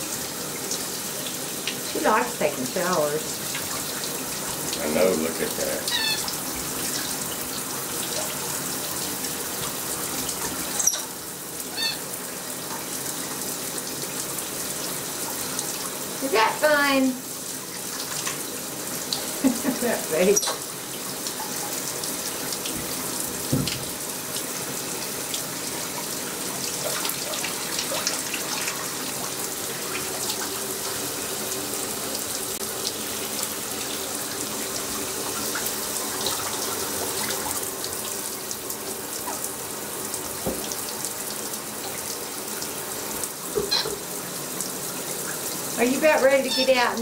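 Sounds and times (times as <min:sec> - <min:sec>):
shower water spraying: 0:00.0 - 0:47.0.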